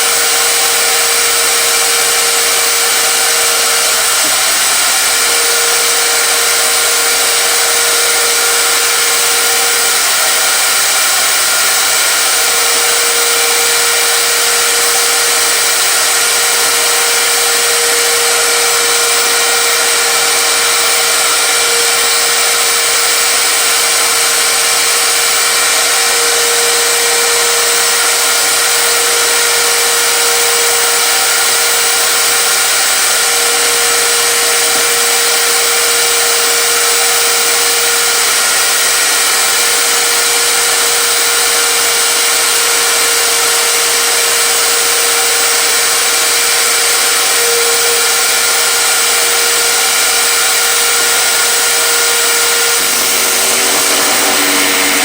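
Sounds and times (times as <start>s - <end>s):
power tool motor running: 0.0s - 55.0s.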